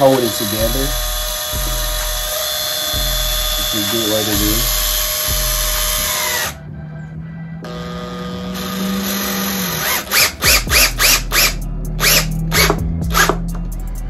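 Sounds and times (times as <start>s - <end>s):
cordless drill driving screw: 0.0s - 6.6s, 7.7s - 13.4s.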